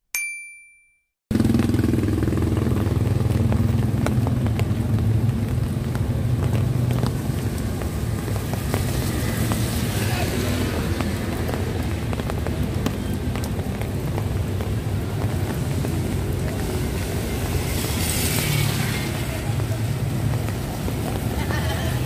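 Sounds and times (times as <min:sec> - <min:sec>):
heavy rain on wet street: 0:01.3 - 0:22.0.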